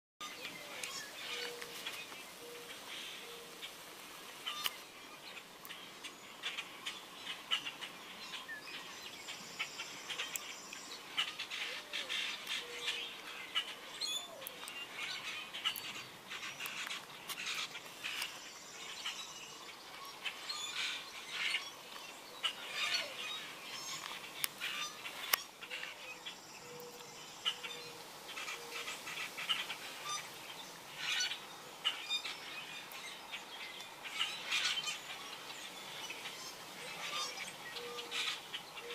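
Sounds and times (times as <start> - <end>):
songbirds chirping: 0.2 - 38.9.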